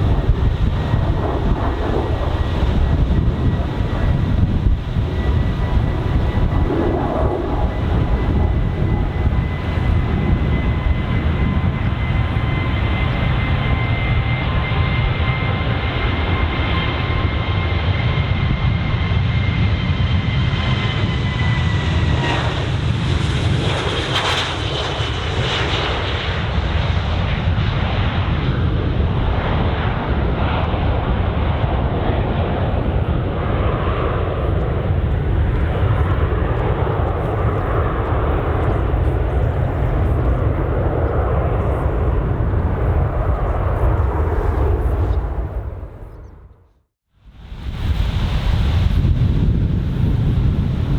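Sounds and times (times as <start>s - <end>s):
jet engines rumbling: 0.0s - 50.9s.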